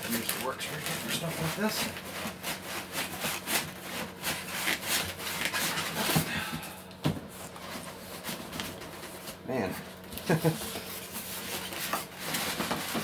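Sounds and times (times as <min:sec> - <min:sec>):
foam and cardboard scraping: 0:00.0 - 0:06.4, 0:07.3 - 0:13.0.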